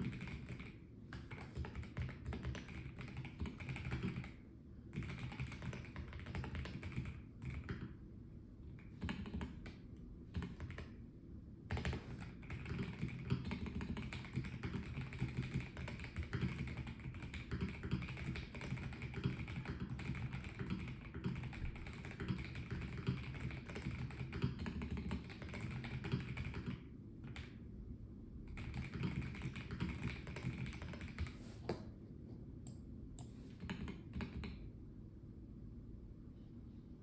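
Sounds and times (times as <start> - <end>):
mechanical keyboard typing: 0.0 - 7.9, 8.8 - 11.0, 11.7 - 27.5, 28.5 - 31.4, 33.6 - 34.6.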